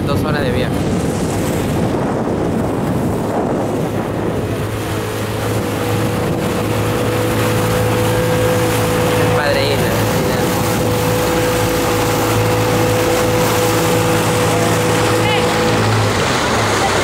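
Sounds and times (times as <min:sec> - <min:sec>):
boat motor running: 0:00.0 - 0:17.0
water rushing past hull: 0:00.0 - 0:17.0
wind buffeting microphone: 0:00.0 - 0:17.0.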